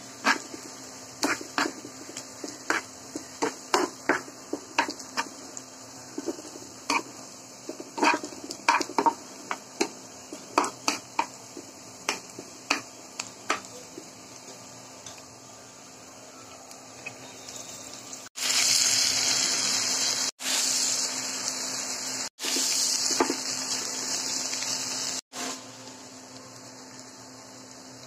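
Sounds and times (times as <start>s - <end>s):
onions frying sizzle: 0.0s - 28.0s.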